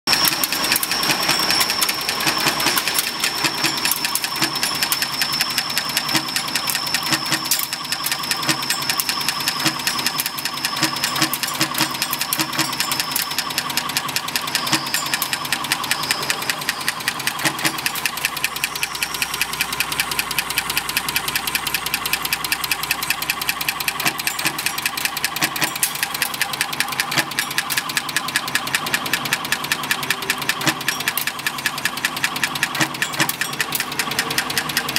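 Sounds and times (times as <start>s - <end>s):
rapid mechanical clatter of machine: 0.1s - 34.9s.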